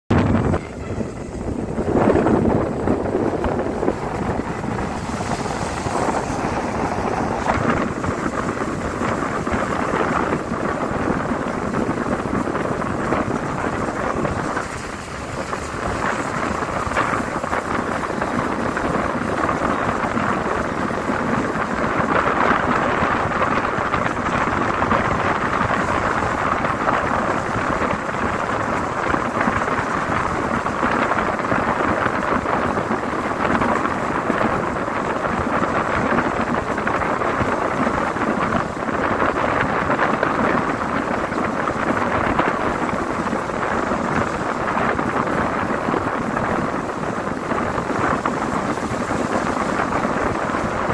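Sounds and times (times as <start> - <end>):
moving vehicle rushing noise: 0.0 - 50.9
wind buffeting microphone: 0.0 - 50.9.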